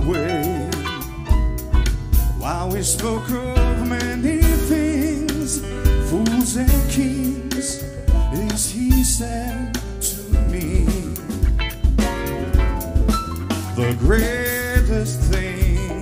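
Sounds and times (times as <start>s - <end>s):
man singing with vibrato: 0.0s - 1.6s, 2.3s - 11.6s, 13.6s - 16.0s
jazz band playing ballad: 0.0s - 16.0s.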